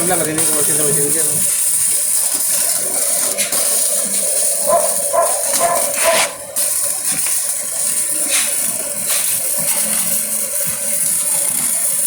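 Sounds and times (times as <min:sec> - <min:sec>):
welding arc crackling hiss: 0:00.0 - 0:12.0.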